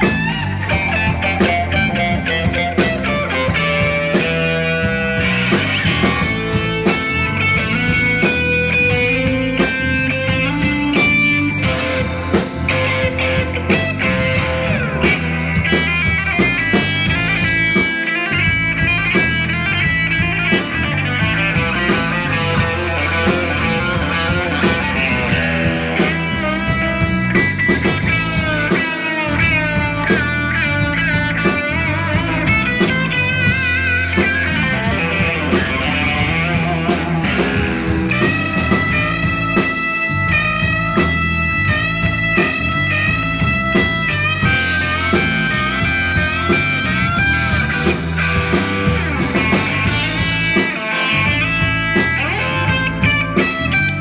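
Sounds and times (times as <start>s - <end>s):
electric guitar lead notes: 0.0s - 54.0s
live rock band playing: 0.0s - 54.0s.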